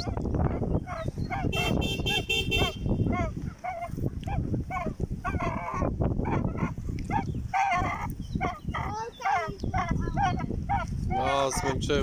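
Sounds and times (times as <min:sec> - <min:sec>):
goose squawk: 0:00.0 - 0:11.8
geese honking: 0:00.0 - 0:12.0.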